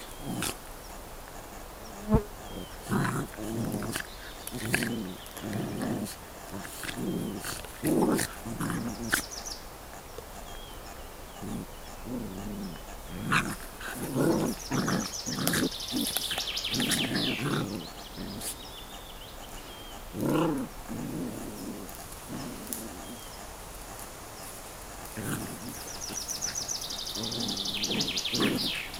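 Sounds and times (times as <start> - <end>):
puppies play-growling: 0.0 - 0.8, 2.1 - 10.0, 11.3 - 18.8, 19.5 - 28.9.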